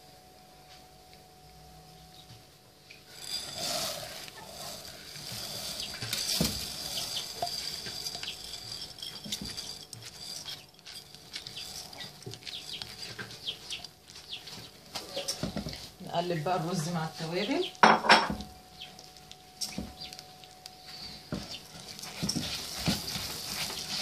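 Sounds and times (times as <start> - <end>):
rice grains pattering into pot: 3.0 - 17.0, 18.3 - 24.0
rice sizzling in fat: 3.0 - 17.6, 18.4 - 24.0.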